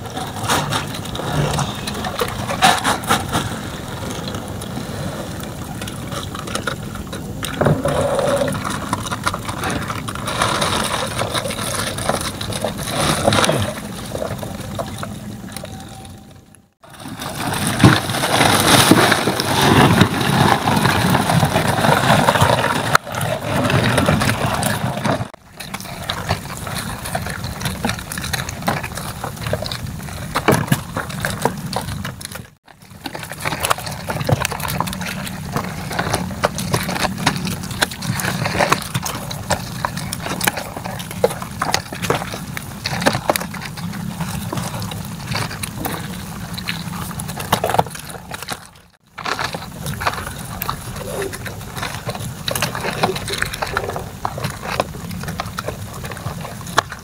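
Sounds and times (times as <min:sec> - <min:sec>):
water sloshing: 0:00.0 - 0:57.0.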